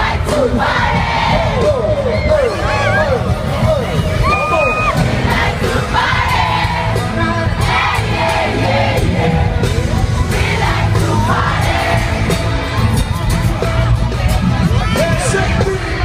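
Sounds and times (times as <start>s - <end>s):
amplified pop music: 0.0s - 16.0s
crowd singing and shouting: 0.0s - 16.0s.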